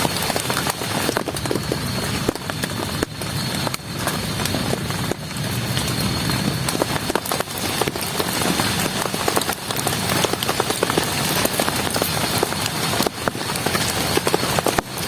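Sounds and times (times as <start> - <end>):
heavy rain falling: 0.0 - 15.0
raindrops tapping on a surface: 0.0 - 15.0.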